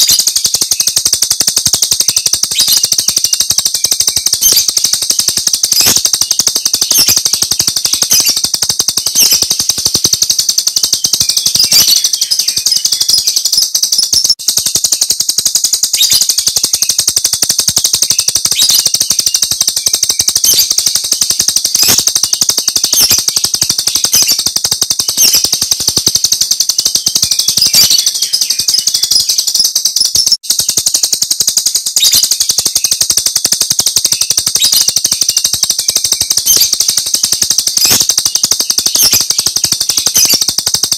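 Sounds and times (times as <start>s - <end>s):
bird song rapid rattling notes: 0.0s - 40.9s.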